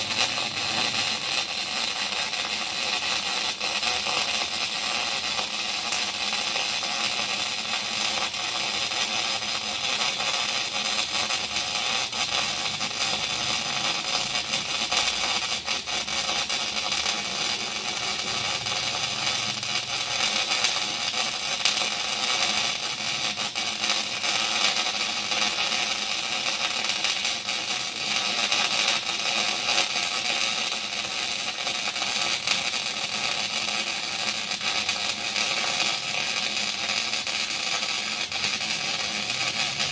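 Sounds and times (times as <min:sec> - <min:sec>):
welding arc crackling hiss: 0:00.0 - 0:39.9.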